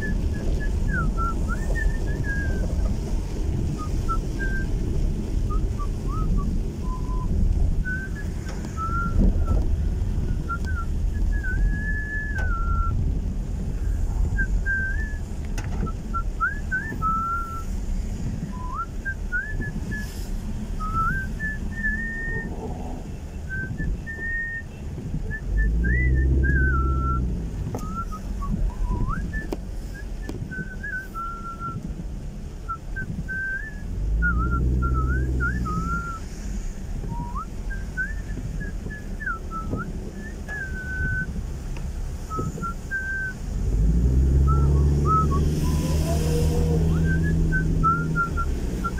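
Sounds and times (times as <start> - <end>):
person whistling a tune: 0.0 - 2.8, 3.7 - 4.7, 5.5 - 9.6, 10.3 - 13.0, 14.4 - 17.8, 18.4 - 22.7, 23.5 - 31.9, 32.7 - 41.4, 42.3 - 43.4, 44.3 - 48.9
car road and engine noise: 0.0 - 48.9.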